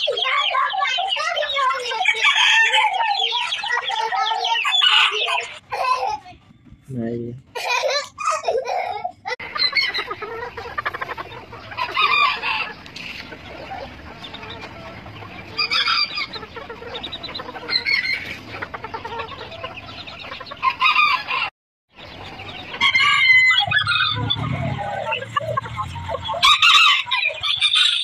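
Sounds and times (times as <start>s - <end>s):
roosters crowing: 0.0s - 5.6s, 9.4s - 28.0s
chickens clucking: 0.0s - 28.0s.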